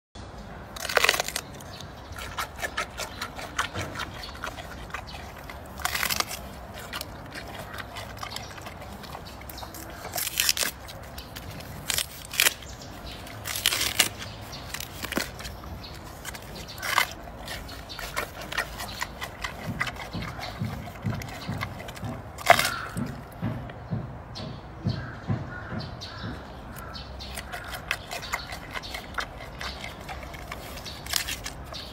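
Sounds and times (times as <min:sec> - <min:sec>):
bamboo cracking: 0:00.6 - 0:23.3, 0:26.7 - 0:31.9
chewing crackles and clicks: 0:00.6 - 0:23.8, 0:26.3 - 0:31.9.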